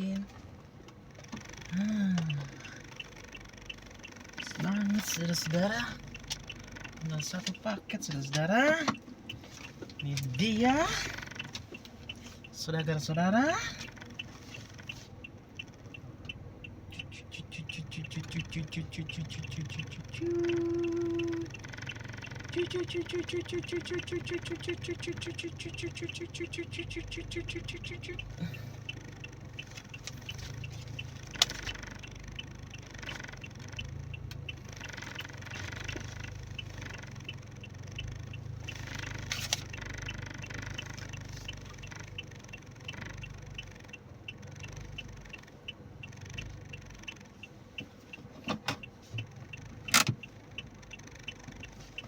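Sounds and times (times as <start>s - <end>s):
car engine hum: 0.0s - 52.0s
sharp clicks: 0.8s - 12.6s, 13.8s - 47.4s
fast regular ticking: 0.8s - 48.2s, 48.8s - 52.0s.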